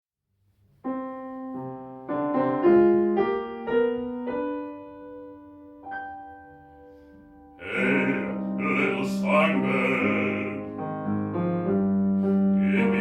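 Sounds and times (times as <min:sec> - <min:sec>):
piano chords: 0:00.6 - 0:13.0.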